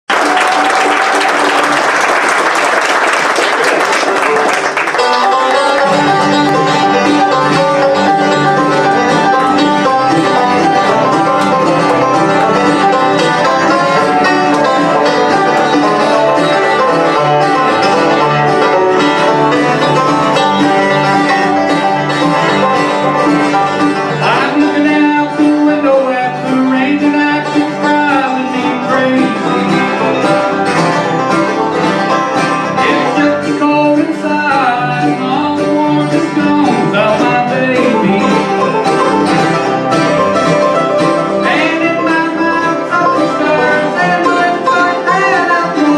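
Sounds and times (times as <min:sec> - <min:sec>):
crowd noise: 0:00.0 - 0:45.9
banjo: 0:00.1 - 0:45.9
mandolin: 0:00.1 - 0:45.9
acoustic guitars: 0:03.3 - 0:45.9
upright bass: 0:03.6 - 0:45.9.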